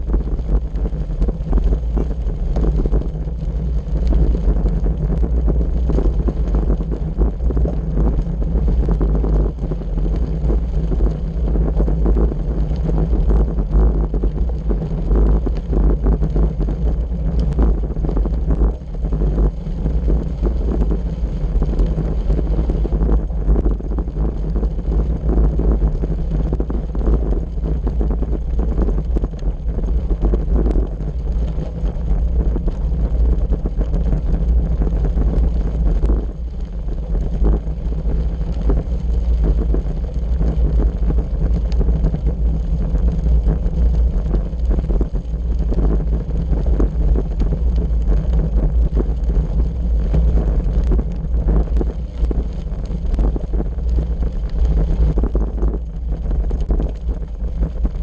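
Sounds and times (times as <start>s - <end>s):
bicycle tyres on gravel: 0.0s - 58.0s
wind buffeting microphone: 0.0s - 58.0s.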